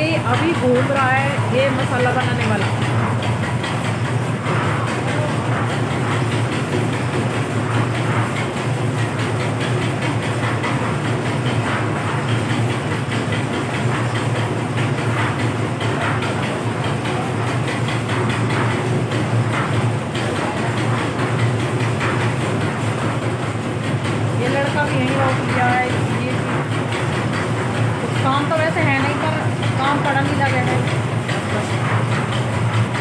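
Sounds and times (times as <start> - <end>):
concrete mixer humming and clattering: 0.0 - 33.0.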